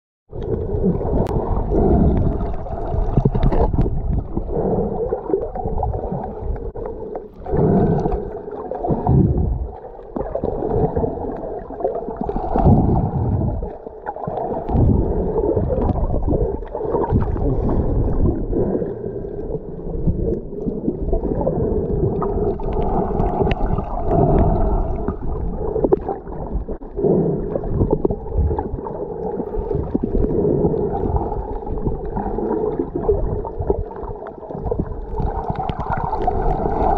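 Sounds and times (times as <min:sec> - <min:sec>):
muffled underwater rushing: 0:00.3 - 0:36.9.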